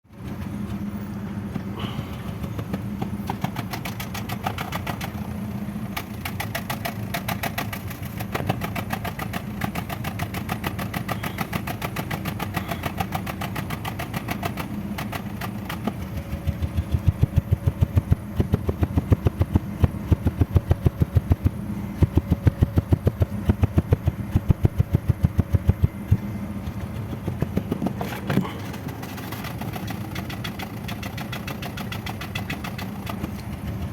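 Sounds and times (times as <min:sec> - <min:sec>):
engine idling with misfire: 0:00.0 - 0:33.9.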